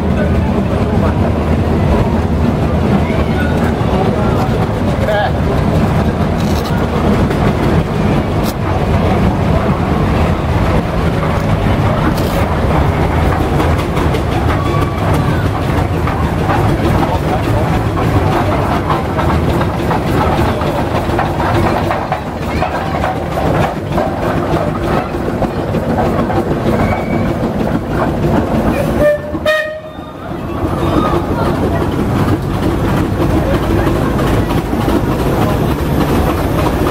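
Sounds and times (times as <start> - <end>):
steam roller rumbling: 0.0 - 36.9.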